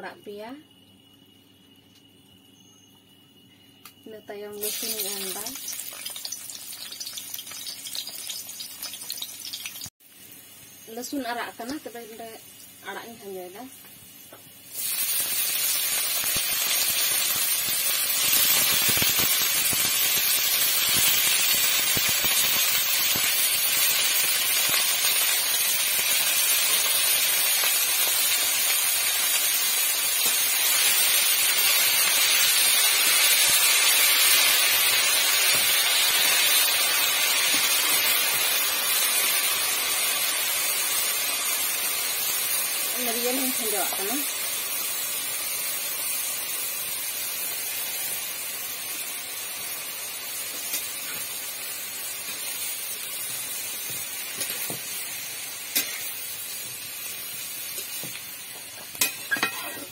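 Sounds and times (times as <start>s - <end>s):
greens sizzling in hot oil: 4.0s - 59.9s.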